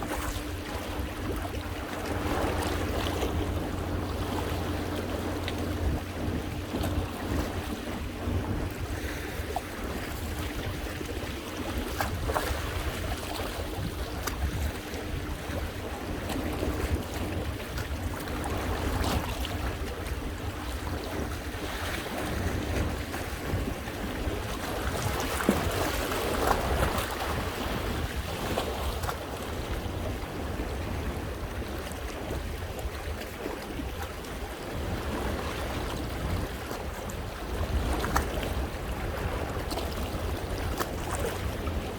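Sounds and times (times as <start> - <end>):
sea waves washing over rocks: 0.0 - 41.9
wind buffeting microphone: 0.0 - 41.9.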